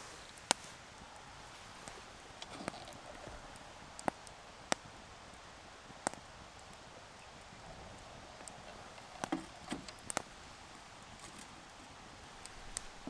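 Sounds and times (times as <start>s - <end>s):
campfire crackling: 0.0s - 13.0s
fire popping and snapping: 0.0s - 13.0s
low steady hiss: 0.0s - 13.0s.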